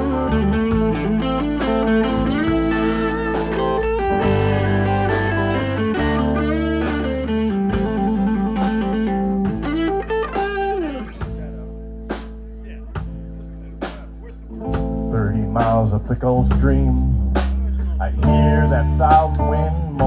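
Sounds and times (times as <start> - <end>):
bass guitar: 0.0 - 20.0
electric guitar lead: 0.0 - 20.0.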